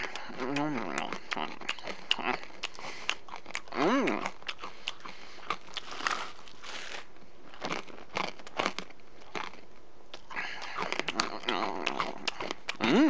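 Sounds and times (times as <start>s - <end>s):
crunching hard corn kernels: 0.0s - 13.0s.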